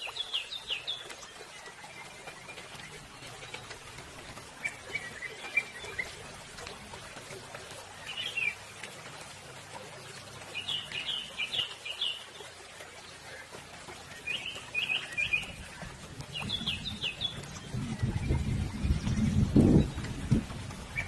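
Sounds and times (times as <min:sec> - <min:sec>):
songbird chirping: 0:00.0 - 0:21.0.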